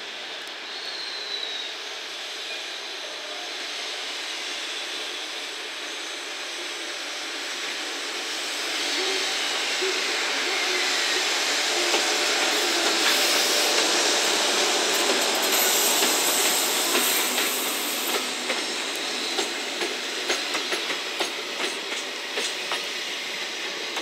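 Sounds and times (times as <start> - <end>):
electric locomotive rolling past: 1.4 - 24.0.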